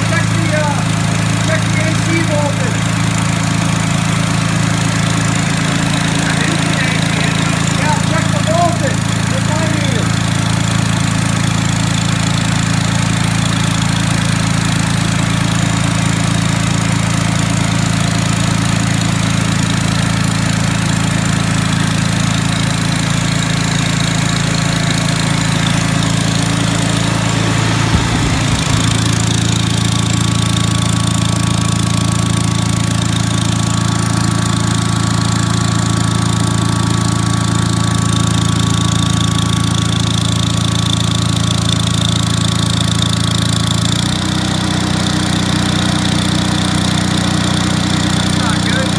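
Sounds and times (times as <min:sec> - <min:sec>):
generator engine running: 0:00.0 - 0:48.9.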